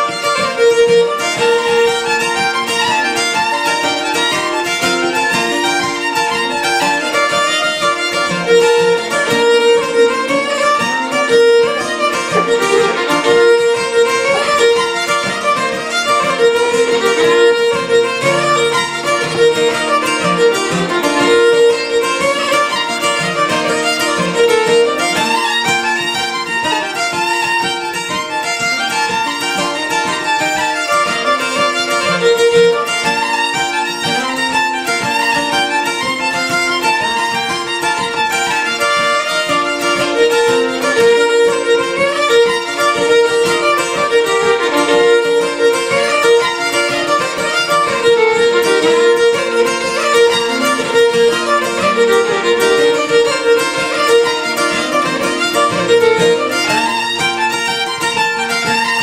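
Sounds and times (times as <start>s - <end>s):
fiddle melody: 0.0s - 59.0s.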